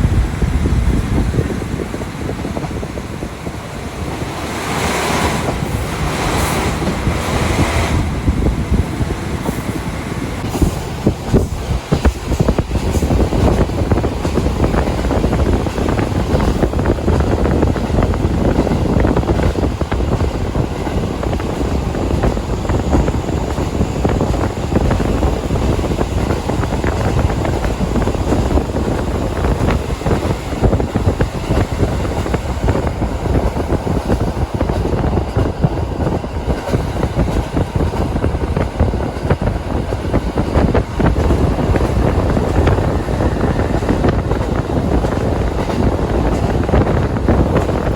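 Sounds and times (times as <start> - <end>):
rushing wind noise: 0.0 - 47.9
train engine and wheels rumbling: 0.0 - 47.9.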